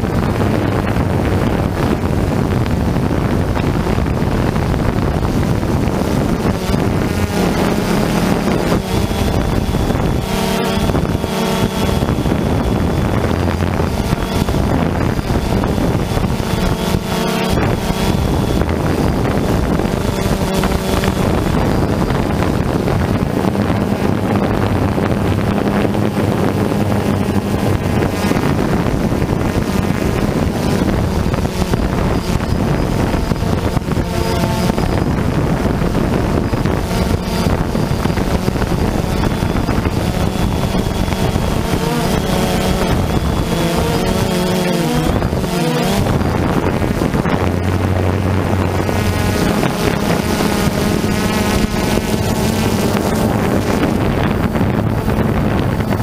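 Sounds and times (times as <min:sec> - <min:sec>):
drone motors humming: 0:00.0 - 0:56.0
wind buffeting microphone: 0:00.0 - 0:56.0.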